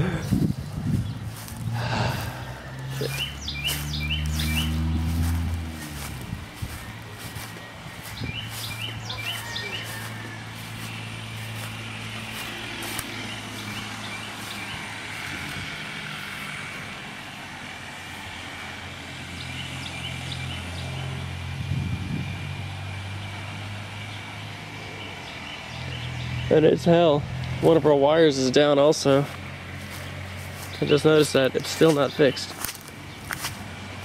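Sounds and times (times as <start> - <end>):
birds chirping: 0.0 - 34.0
vehicle engine running: 0.0 - 34.0.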